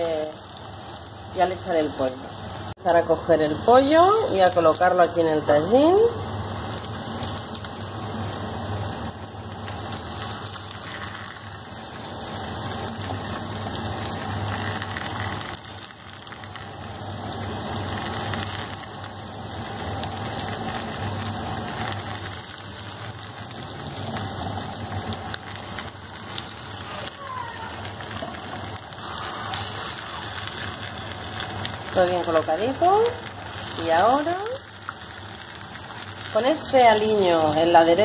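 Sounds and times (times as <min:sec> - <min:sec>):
oil sizzling: 0:00.0 - 0:38.0.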